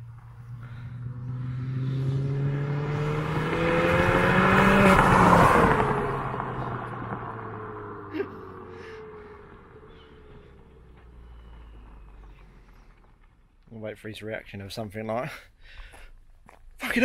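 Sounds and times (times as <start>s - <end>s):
car engine accelerating: 0.0s - 13.7s.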